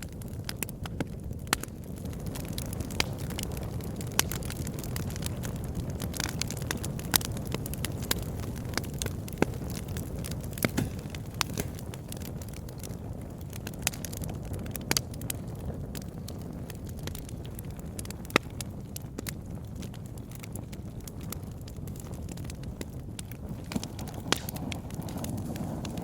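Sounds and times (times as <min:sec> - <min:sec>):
campfire flames rumbling: 0:00.0 - 0:26.0
wood crackling and popping: 0:00.0 - 0:26.0.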